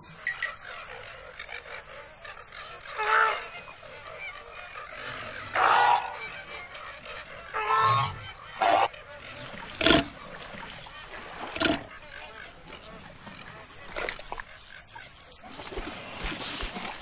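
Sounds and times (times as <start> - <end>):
flock background calls: 0.0 - 17.0
flamingos honking: 0.1 - 15.0.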